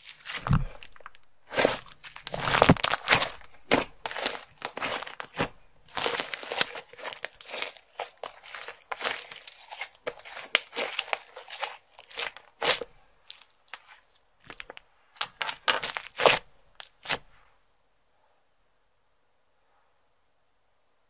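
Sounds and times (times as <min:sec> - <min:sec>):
slime crackling and squelching: 0:00.0 - 0:17.3.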